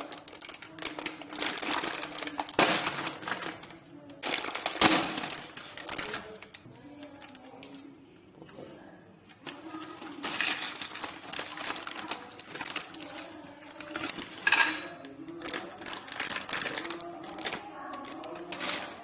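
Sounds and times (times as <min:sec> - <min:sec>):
packaging rustling and crinkling: 0:00.0 - 0:07.6, 0:09.3 - 0:19.0
loud packaging crackle: 0:00.0 - 0:07.7, 0:09.4 - 0:19.0.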